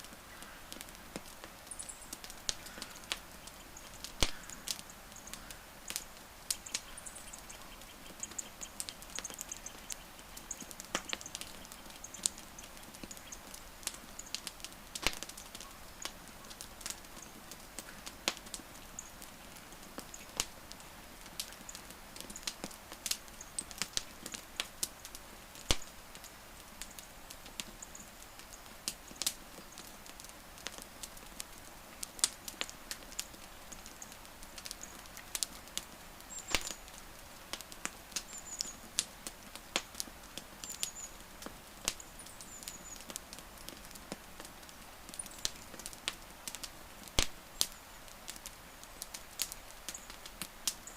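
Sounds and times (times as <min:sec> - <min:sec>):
soft steady hiss: 0:00.0 - 0:50.9
wood fire crackling: 0:00.0 - 0:50.9.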